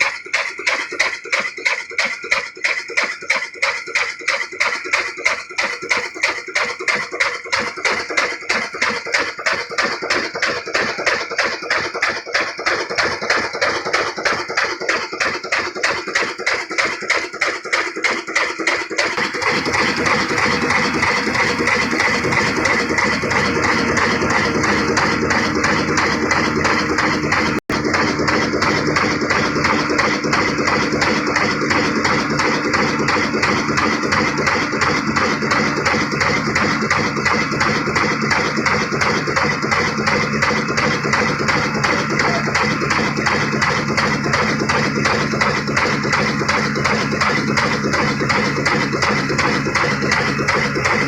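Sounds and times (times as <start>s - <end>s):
diesel engine knocking steadily: 0.0s - 51.0s.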